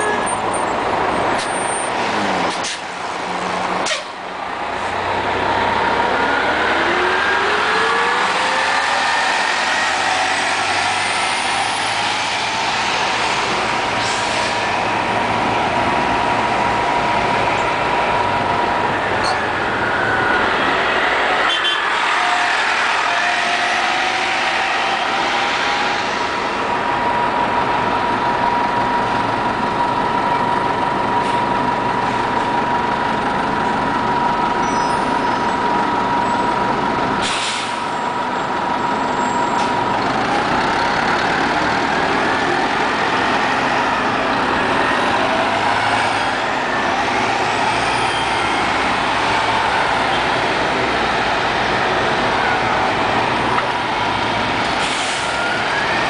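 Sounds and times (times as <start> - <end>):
buses driving past: 0.0 - 56.0.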